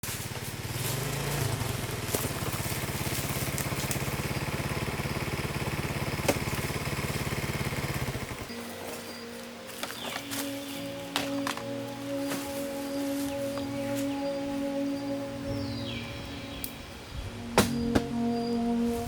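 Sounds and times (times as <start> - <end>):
small engine running: 0.1 - 19.0.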